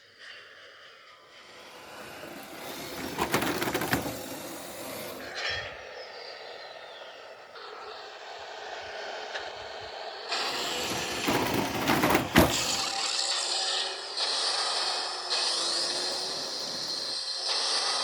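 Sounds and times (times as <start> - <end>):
toy vehicle electric motors running: 0.2 - 18.0.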